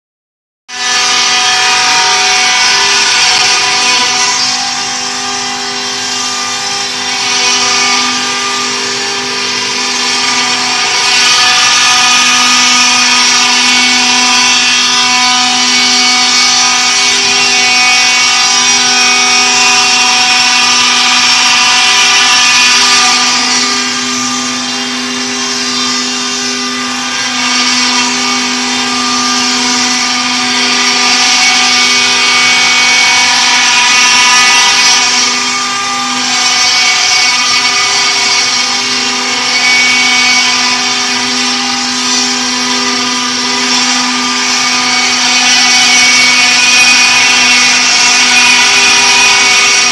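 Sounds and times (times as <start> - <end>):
cutters grinding stone: 0.7 - 49.9.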